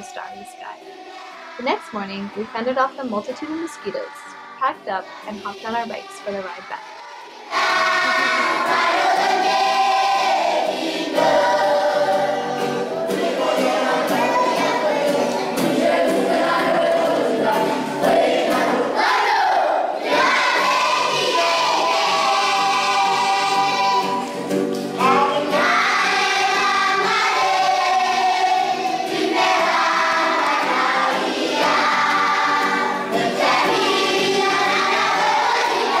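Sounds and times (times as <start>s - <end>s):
children's choir singing gospel: 0.0s - 36.0s.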